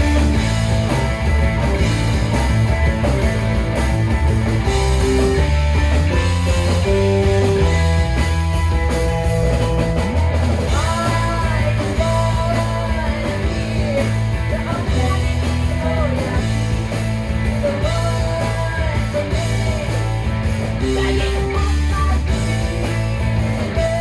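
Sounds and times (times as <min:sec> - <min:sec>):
lead guitar line bending: 0:00.0 - 0:24.0
rock band playing: 0:00.0 - 0:24.0.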